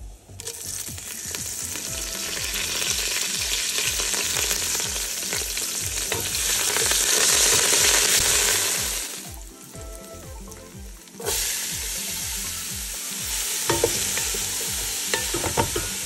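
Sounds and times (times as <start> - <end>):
spices sizzling in hot oil: 0.0 - 16.0.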